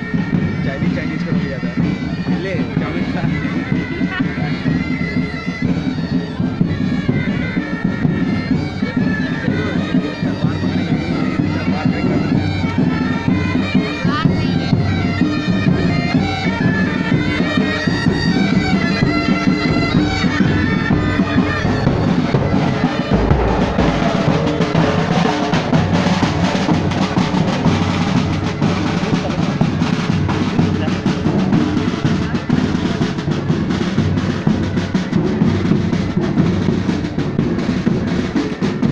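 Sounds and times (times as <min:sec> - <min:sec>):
bagpipe melody: 0:00.0 - 0:38.8
snare and bass drums marching beat: 0:00.0 - 0:38.9.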